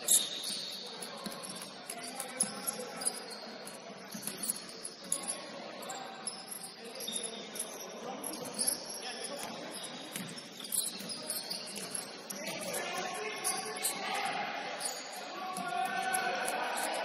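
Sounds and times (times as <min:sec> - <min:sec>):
murmur of busy gym: 0:00.0 - 0:17.0
shoes squeaking on gym floor: 0:00.0 - 0:17.0.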